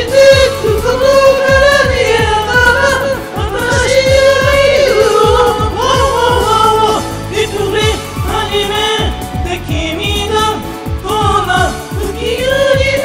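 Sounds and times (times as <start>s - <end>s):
steady kick-drum beat: 0.0s - 13.0s
up-tempo pop song: 0.0s - 13.0s.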